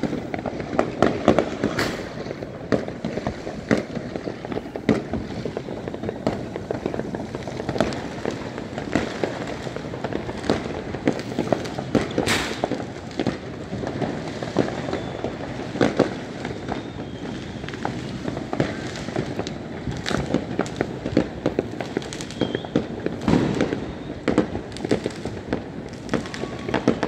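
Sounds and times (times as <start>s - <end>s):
fireworks bangs and pops: 0.0s - 27.0s
fireworks crackling: 0.0s - 27.0s.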